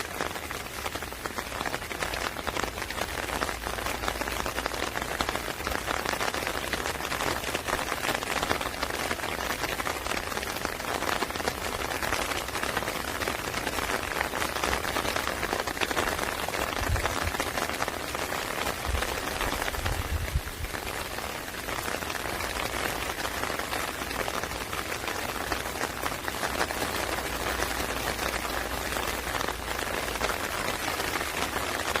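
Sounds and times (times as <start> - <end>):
rain falling: 0.0 - 32.0.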